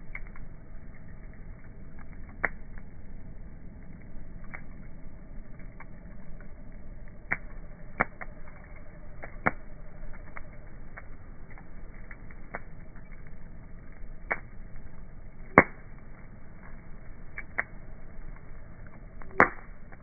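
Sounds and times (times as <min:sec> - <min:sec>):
low steady rumble: 0:00.0 - 0:20.0
wood fire crackling and popping: 0:00.0 - 0:20.0.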